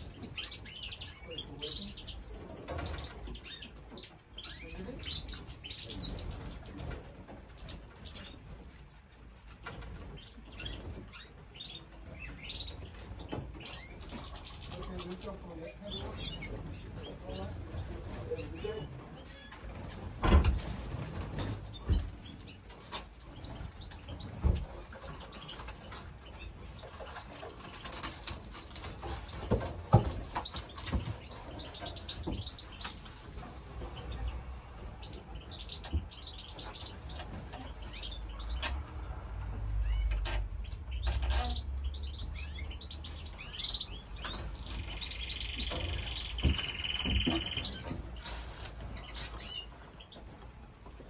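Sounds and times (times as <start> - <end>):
birds chirping and twittering: 0.0 - 51.0.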